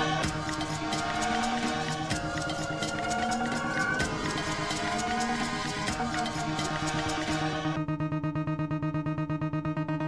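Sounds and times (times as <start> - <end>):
electronic music with fast pulses: 0.0 - 10.0.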